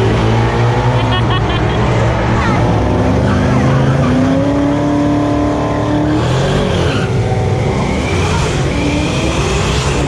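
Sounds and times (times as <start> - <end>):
race car engine at full throttle: 0.0 - 10.0.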